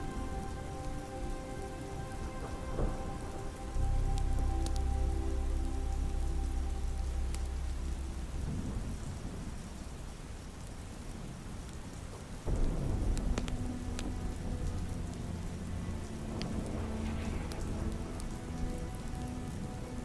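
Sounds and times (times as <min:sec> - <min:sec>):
low rumble of thunder: 0:00.0 - 0:20.0
soft ambient music: 0:00.0 - 0:20.0
steady rain: 0:00.0 - 0:20.0.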